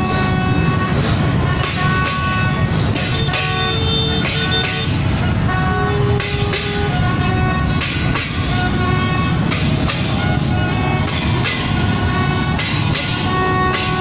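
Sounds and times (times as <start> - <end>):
horns tooting: 0.0 - 14.0
motorbike engines rumbling: 0.0 - 14.0.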